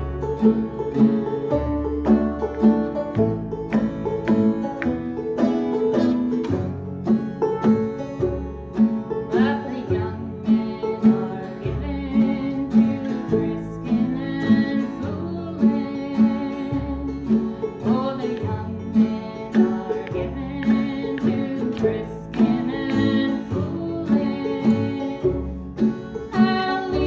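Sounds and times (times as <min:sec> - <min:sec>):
acoustic string band playing: 0:00.0 - 0:27.0.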